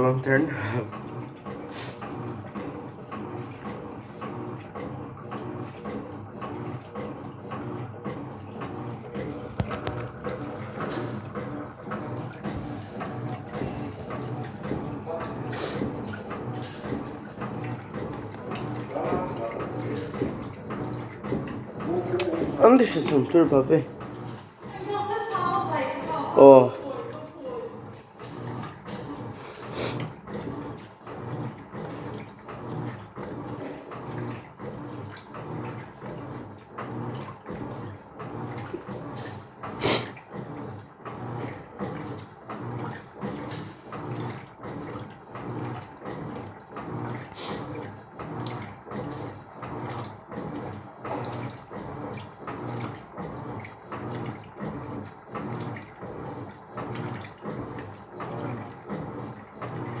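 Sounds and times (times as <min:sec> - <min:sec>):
washing machine water sloshing: 0:00.0 - 1:00.0.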